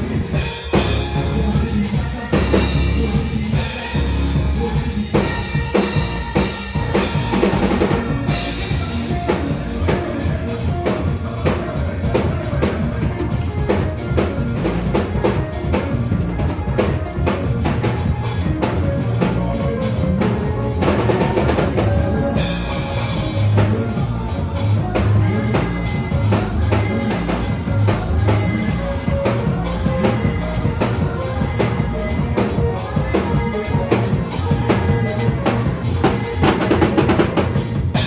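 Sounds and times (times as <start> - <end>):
drum kit beat: 0.0 - 38.0.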